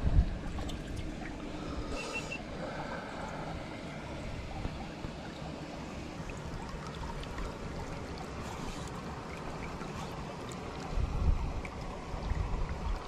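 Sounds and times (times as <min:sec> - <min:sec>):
stream rushing water: 0:00.0 - 0:13.0
small water splashes: 0:00.1 - 0:13.0.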